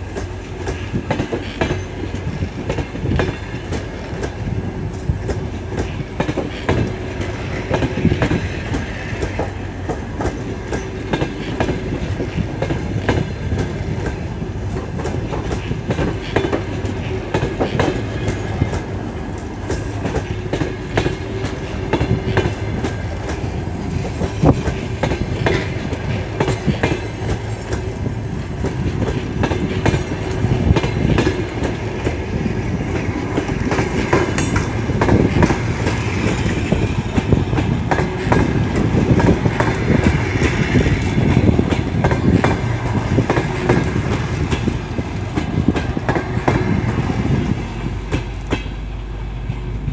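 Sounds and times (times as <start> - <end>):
train wheels clattering over rail joints: 0.0 - 49.9.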